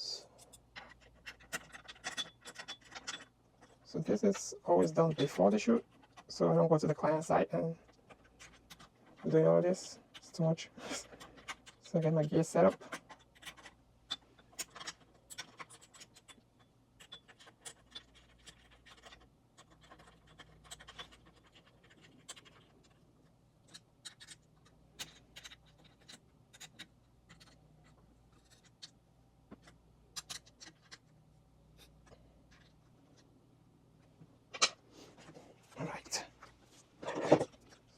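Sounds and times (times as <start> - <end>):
light clicks taps and scrapes: 0.3 - 6.4, 7.8 - 33.3.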